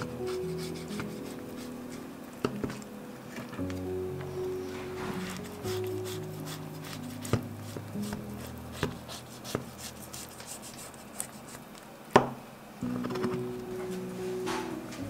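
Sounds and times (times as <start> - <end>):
soft background music: 0.0 - 11.5, 12.8 - 15.0.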